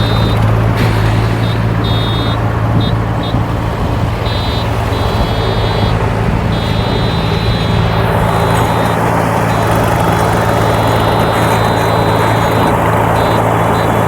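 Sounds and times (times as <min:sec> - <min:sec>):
high-pitched electronic beeping: 0:00.0 - 0:00.5, 0:01.4 - 0:03.5, 0:04.2 - 0:14.0
diesel machinery engine running: 0:00.0 - 0:14.0.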